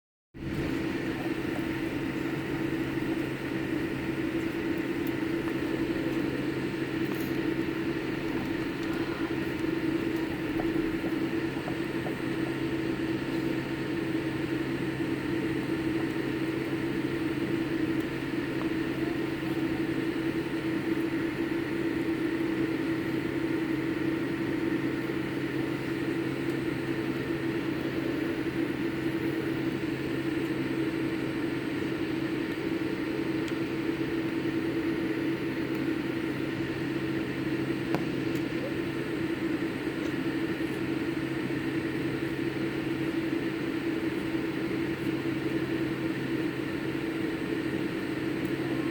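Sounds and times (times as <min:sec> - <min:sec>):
airliner engine drone: 0:00.4 - 0:48.9.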